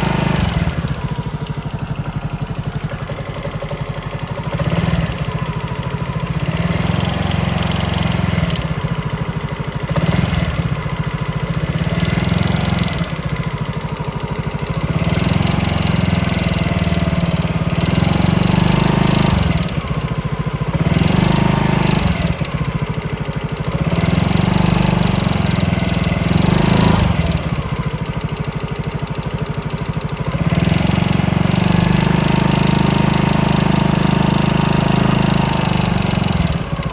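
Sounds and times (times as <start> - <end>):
scooter engine revving: 0.0 - 36.9.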